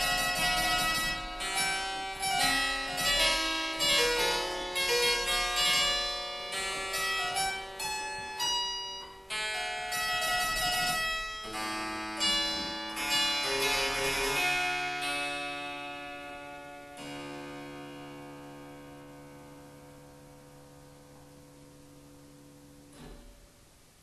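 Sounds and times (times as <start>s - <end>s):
harpsichord playing: 0.0s - 23.0s.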